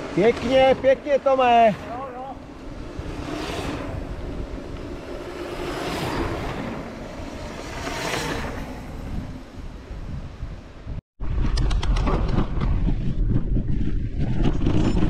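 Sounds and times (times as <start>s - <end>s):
bike rolling rumble: 0.0s - 15.0s
wind rushing over microphone: 0.0s - 15.0s.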